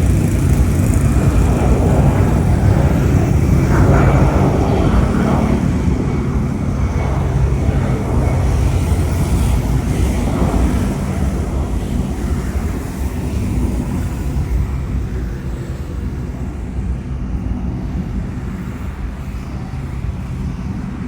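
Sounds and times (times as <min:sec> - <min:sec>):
jet airliner taking off: 0:00.0 - 0:21.0.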